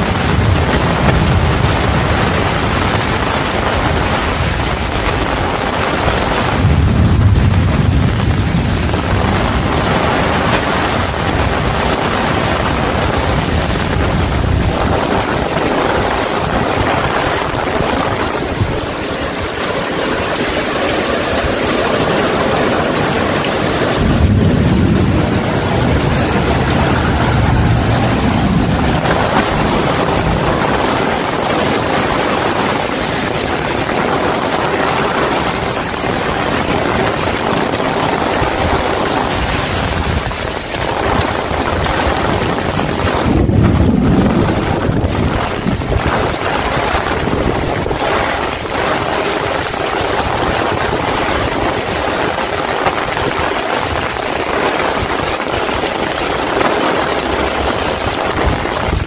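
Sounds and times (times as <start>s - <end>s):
heavy rain pouring: 0.0s - 59.0s
wind rumbling on microphone: 0.0s - 59.0s.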